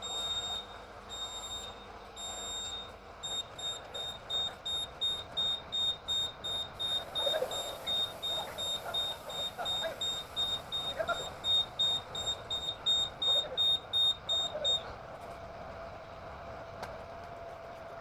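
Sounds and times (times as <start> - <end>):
truck reversing alarm beeping: 0.0 - 15.0.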